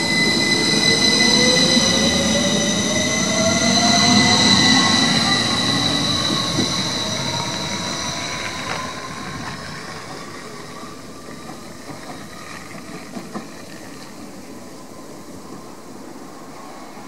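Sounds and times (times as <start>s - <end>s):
electric train squeal and whine: 0.0s - 17.0s
train low rumble and hiss: 0.0s - 17.0s.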